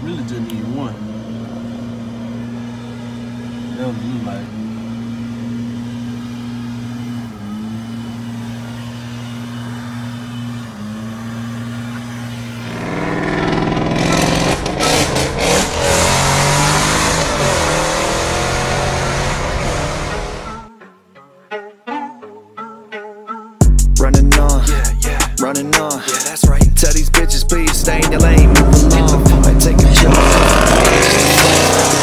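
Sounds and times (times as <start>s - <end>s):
car engine revving: 0.0s - 20.7s, 24.0s - 32.0s.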